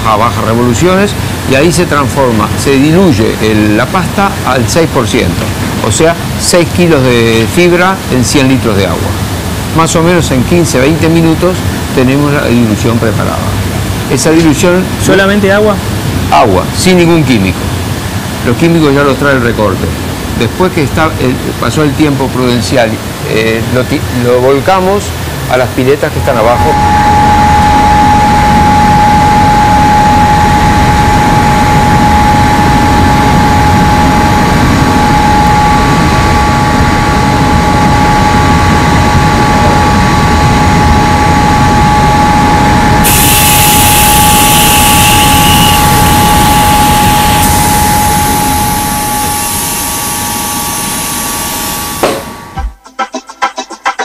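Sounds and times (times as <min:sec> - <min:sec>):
loud machinery noise: 0:00.0 - 0:52.6
thin steady whine: 0:00.0 - 0:52.8.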